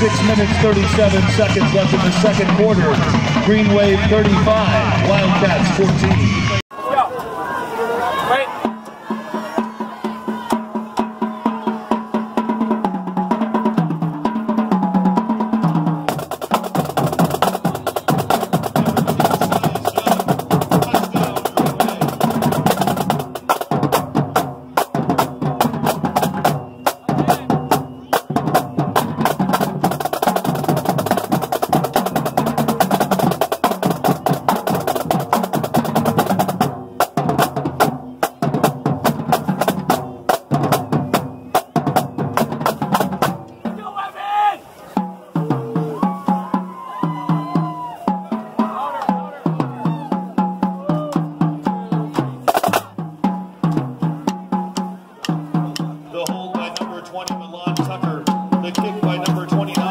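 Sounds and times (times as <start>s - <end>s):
rapid snare drum rolls: 0.0s - 6.3s, 8.6s - 44.0s, 45.0s - 59.9s
drumline playing: 0.0s - 7.2s, 8.2s - 59.9s.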